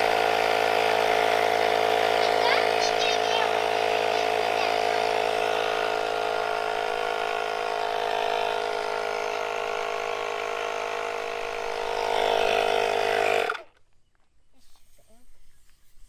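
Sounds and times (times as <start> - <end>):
electric tire inflator running: 0.0 - 13.8.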